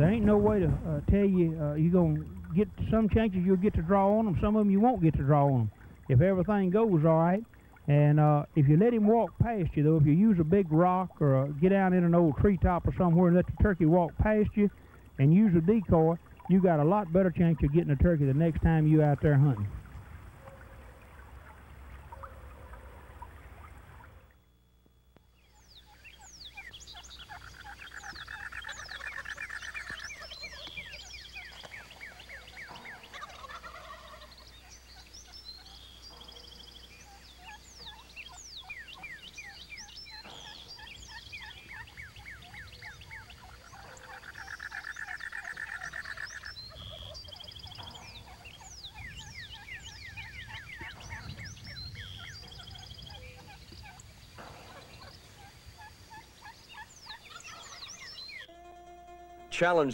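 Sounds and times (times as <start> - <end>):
turkey gobbling: 0.0 - 11.6, 20.3 - 24.3, 25.8 - 58.8
songbirds chirping: 0.0 - 59.9.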